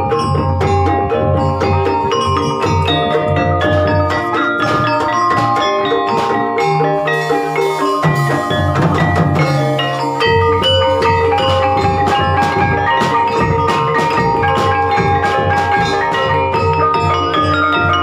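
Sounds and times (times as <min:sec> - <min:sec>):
gamelan ensemble melody: 0:00.0 - 0:18.0.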